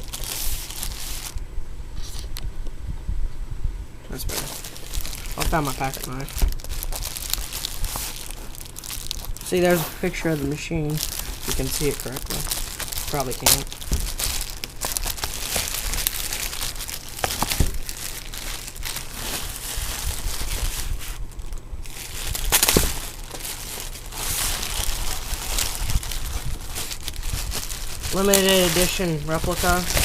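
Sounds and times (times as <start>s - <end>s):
cardboard box crinkling and rustling: 0.0s - 1.4s, 4.2s - 30.0s.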